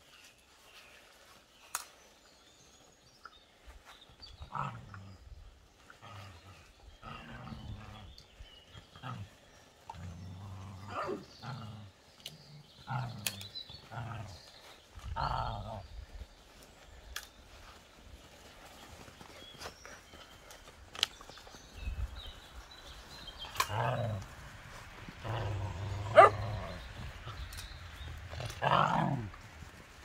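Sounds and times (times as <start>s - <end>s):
puppies play-growling: 4.4s - 16.8s, 17.5s - 29.9s.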